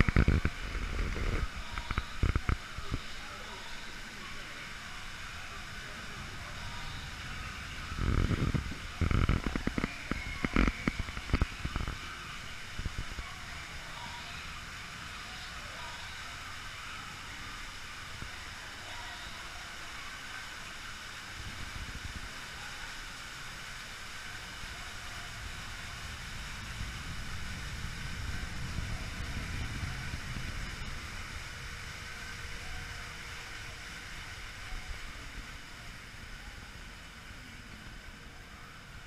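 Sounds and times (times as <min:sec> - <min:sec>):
ride boat low rumble: 0:00.0 - 0:18.7, 0:24.3 - 0:39.0
water noise: 0:00.0 - 0:39.0.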